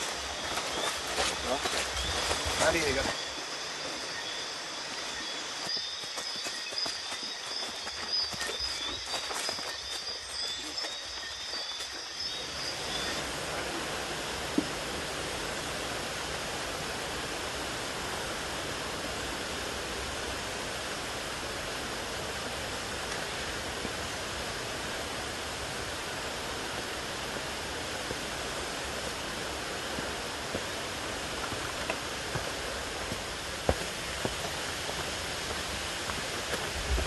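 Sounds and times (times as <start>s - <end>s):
water rushing: 7.2s - 37.0s.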